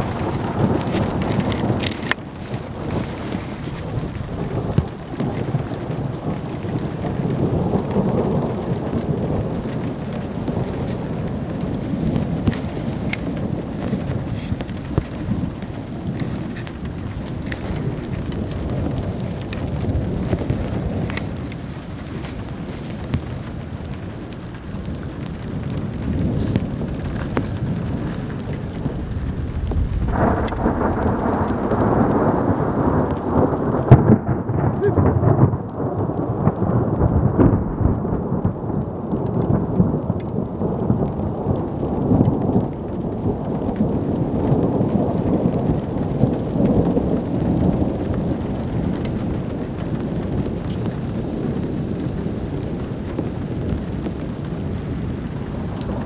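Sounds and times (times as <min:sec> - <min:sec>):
rain hissing: 0:00.0 - 0:56.0
thunder rumbling: 0:00.0 - 0:56.0.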